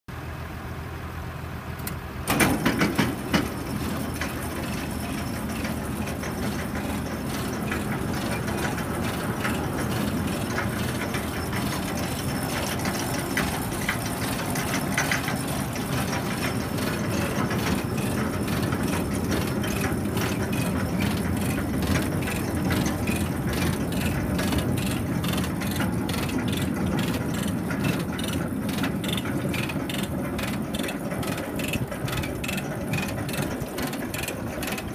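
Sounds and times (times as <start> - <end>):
tractor engine hum: 0.1 - 34.9.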